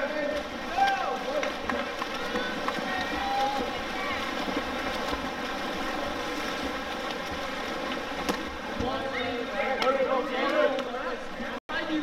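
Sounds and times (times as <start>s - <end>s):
water splashing: 0.0s - 11.6s.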